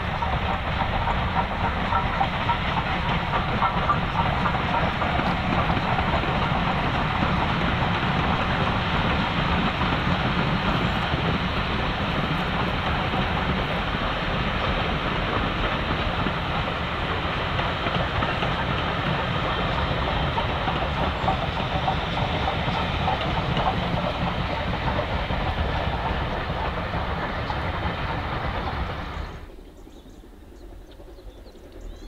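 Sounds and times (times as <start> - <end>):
train rumbling past on rails: 0.0 - 32.0.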